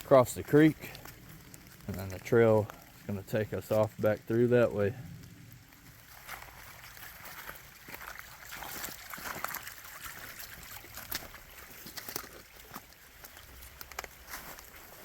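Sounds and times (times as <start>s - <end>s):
creek trickling over rocks: 0.0s - 15.0s.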